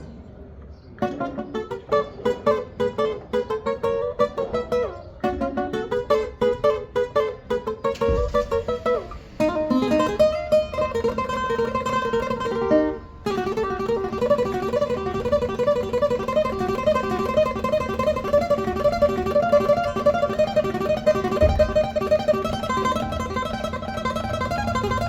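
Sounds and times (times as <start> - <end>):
small guitar plucked melody: 1.0 - 25.0.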